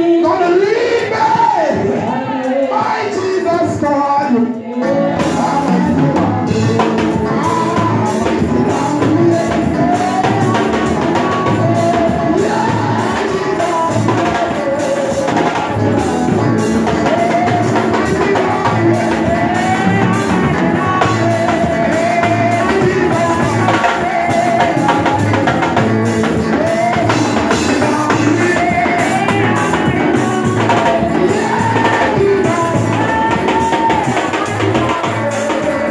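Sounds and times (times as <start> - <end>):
gospel singing with band: 0.0 - 35.9.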